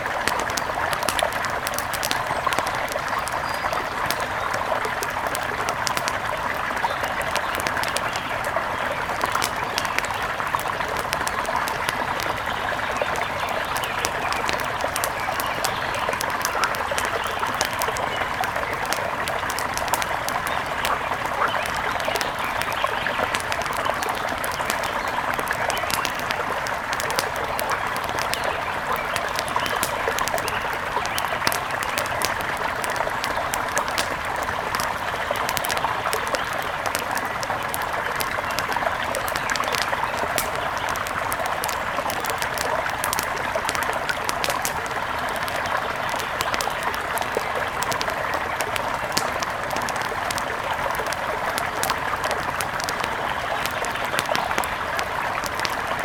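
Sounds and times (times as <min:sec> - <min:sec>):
small water splashes: 0:00.0 - 0:56.0.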